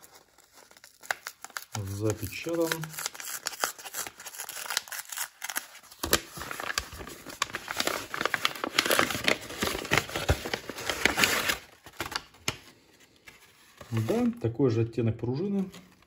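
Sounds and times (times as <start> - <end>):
paper tearing and crumpling: 0.0 - 14.3.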